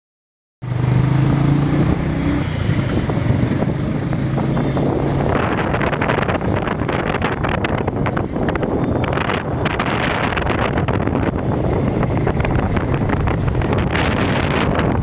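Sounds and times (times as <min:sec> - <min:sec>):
motorbike engine: 0:00.6 - 0:15.0
wind buffeting microphone: 0:00.8 - 0:15.0.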